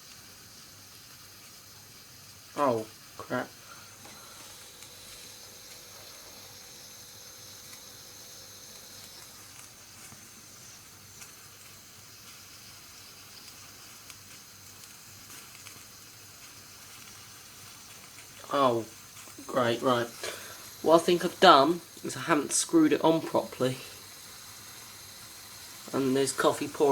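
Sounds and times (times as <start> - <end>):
stovetop coffee pot hissing: 0.0 - 26.9.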